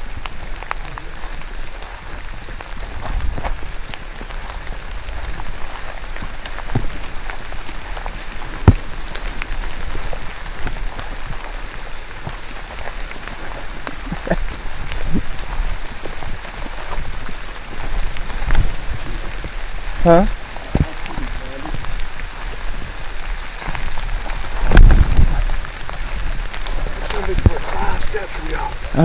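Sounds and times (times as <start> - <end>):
raindrops ticking close by: 0.0 - 29.0
steady rain: 0.0 - 29.0.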